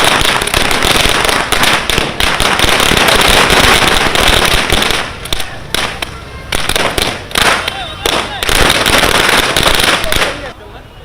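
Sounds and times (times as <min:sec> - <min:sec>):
firecrackers crackling: 0:00.0 - 0:11.0.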